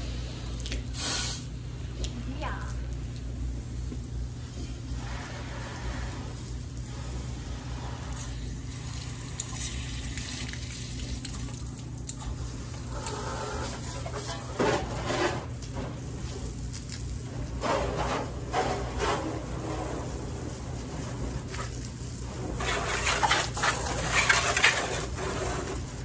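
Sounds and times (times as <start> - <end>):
water spraying onto truck: 0.9 - 1.6, 4.8 - 14.2, 15.0 - 26.0.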